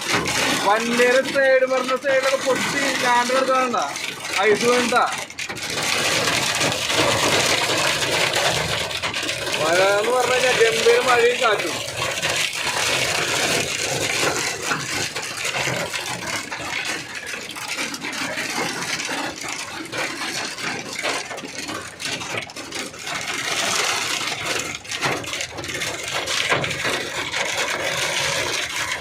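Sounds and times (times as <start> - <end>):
hail and rain pelting a car: 0.0 - 29.0.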